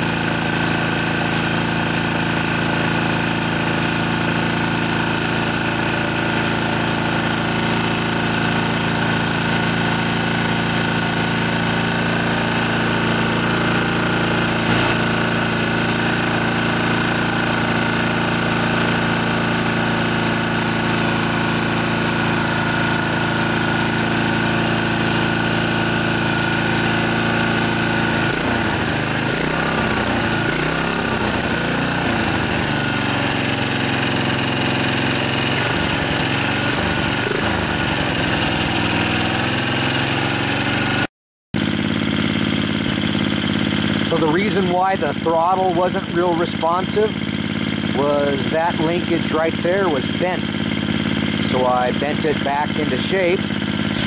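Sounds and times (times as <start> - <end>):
single-cylinder engine running: 0.0 - 54.0.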